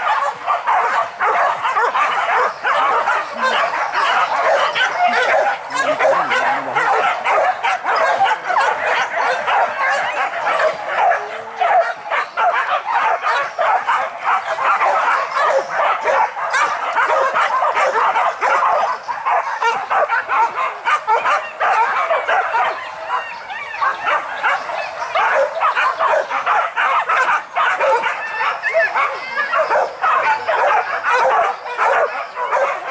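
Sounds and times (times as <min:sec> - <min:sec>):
dogs barking and yelping: 0:00.0 - 0:32.9.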